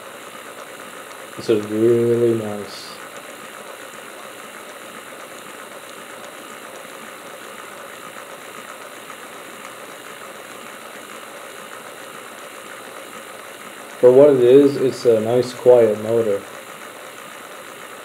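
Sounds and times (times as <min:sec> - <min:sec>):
model locomotive motor whir: 0:00.0 - 0:18.0.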